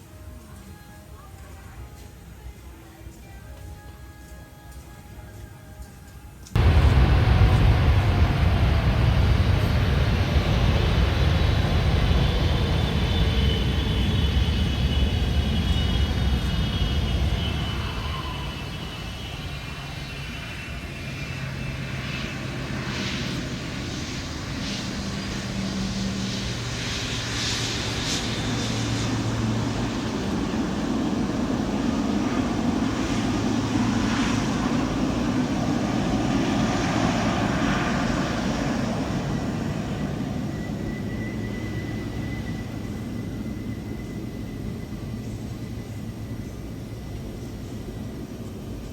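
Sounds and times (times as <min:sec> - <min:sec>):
jet airliner engines rumbling: 0:06.3 - 0:48.9.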